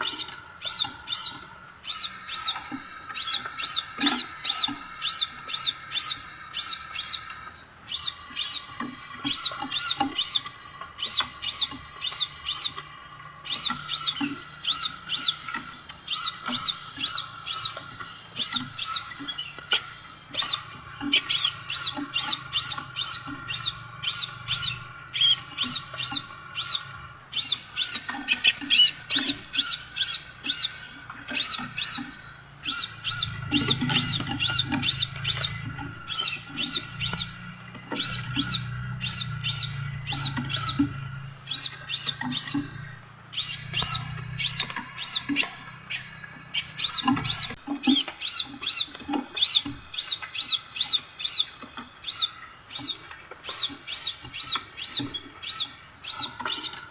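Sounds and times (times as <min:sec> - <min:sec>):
songbird chirping: 0:00.0 - 0:56.9.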